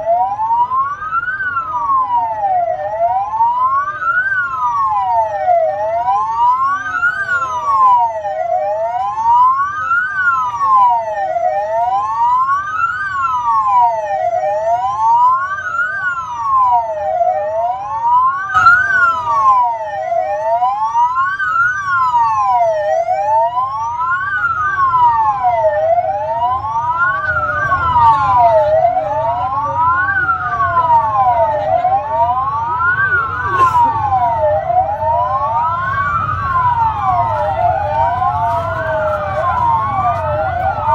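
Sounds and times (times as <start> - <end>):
wailing sirens: 0.0 - 40.9.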